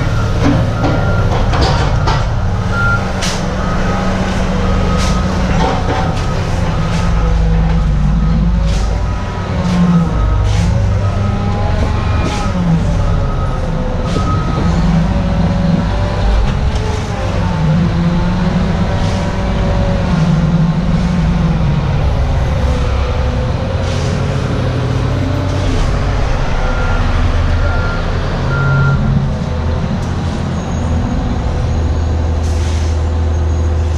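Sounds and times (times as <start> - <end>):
diesel machinery engine: 0.0 - 33.9.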